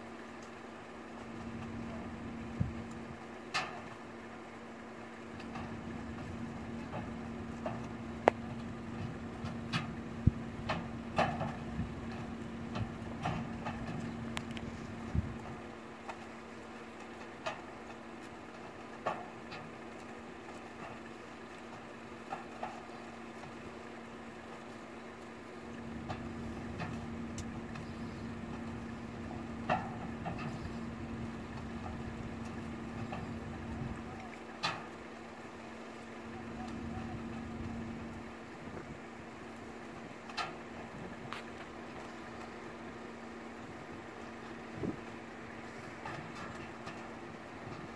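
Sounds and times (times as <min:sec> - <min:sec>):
engine idling hum: 0:00.0 - 0:47.9.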